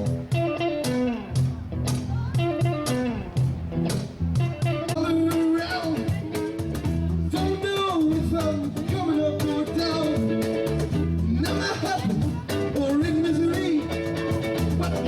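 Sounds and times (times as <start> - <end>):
guitar melody with bending notes: 0.0 - 15.0
live blues-rock band: 0.0 - 15.0.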